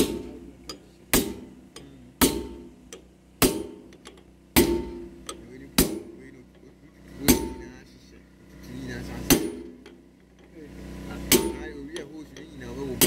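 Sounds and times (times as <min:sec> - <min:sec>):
hammer striking steel: 0:00.0 - 0:07.8, 0:09.2 - 0:10.5, 0:11.2 - 0:13.0.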